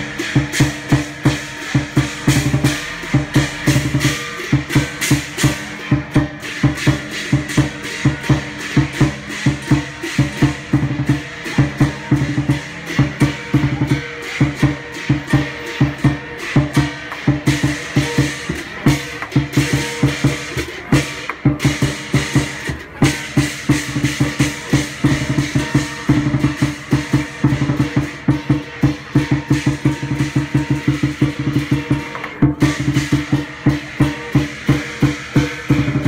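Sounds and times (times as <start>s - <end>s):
cymbals clashing: 0.0s - 36.0s
large drum beaten fast: 0.0s - 36.0s.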